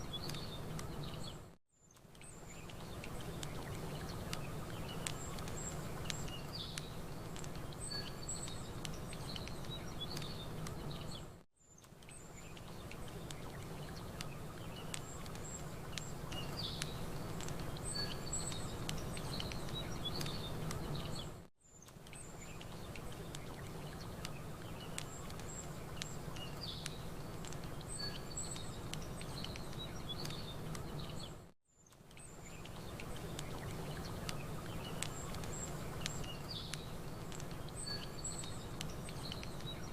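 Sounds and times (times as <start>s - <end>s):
campfire crackling and popping: 0.0s - 1.2s, 2.0s - 11.2s, 11.8s - 31.4s, 32.0s - 39.9s
small birds chirping: 0.0s - 39.9s.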